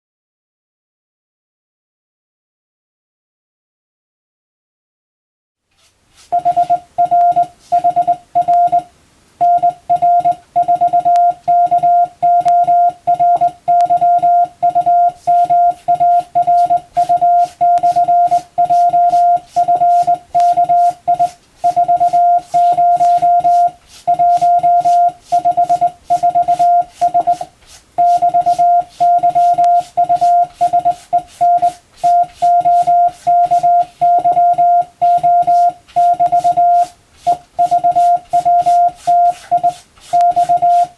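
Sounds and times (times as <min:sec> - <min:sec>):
morse code beeps: 0:06.3 - 0:40.9.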